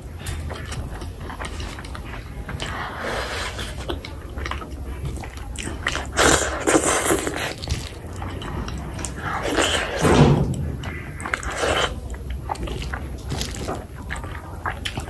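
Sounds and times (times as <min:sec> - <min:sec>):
close wet chewing: 0:00.0 - 0:15.0
hand squishing oily food: 0:00.0 - 0:15.0.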